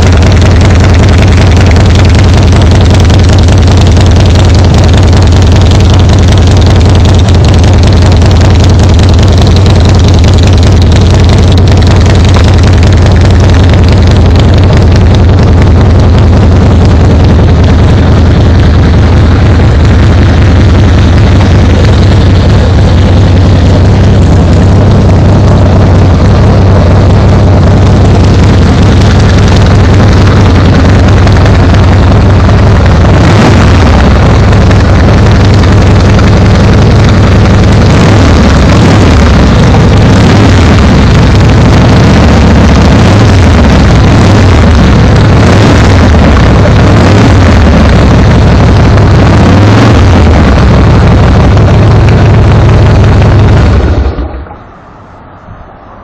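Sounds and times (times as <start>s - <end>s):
motorcycle engine idling: 0.0s - 54.5s.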